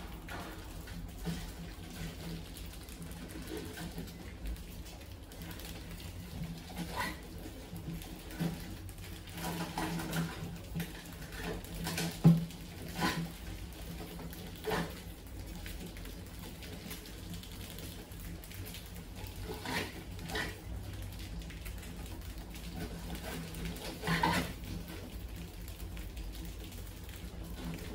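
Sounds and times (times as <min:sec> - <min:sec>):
rats scratching on glass tank: 0:00.0 - 0:21.1, 0:21.7 - 0:26.6.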